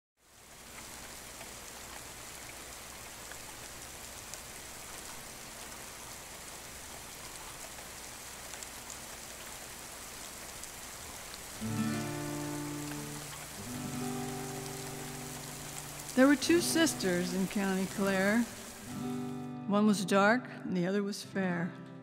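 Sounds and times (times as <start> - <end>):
steady rain falling: 0.2 - 19.5.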